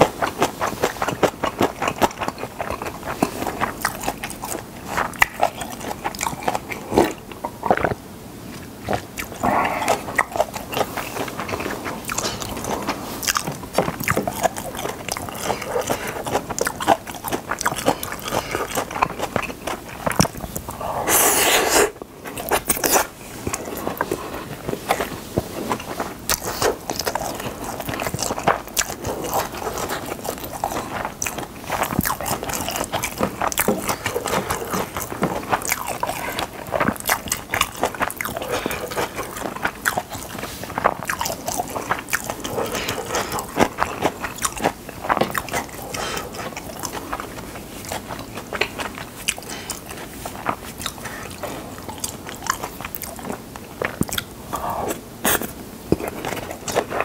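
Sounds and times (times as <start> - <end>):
close chewing and mouth sounds: 0.0 - 57.0.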